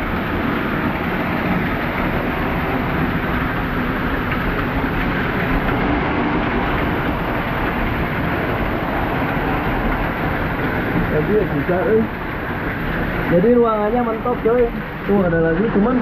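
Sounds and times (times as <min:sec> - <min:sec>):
waterfall rushing and splashing: 0:00.0 - 0:16.0.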